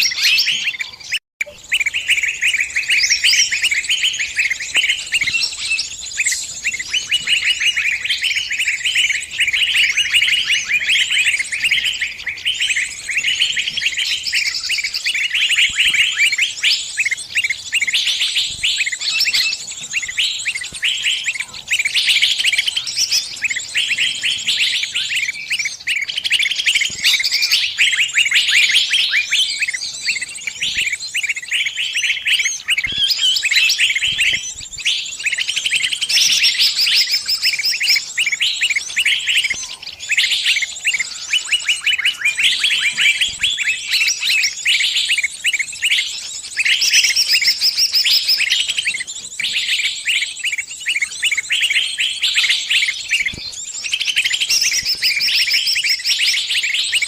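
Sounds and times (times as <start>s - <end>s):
bird shrill distress chirps: 0.0s - 57.0s.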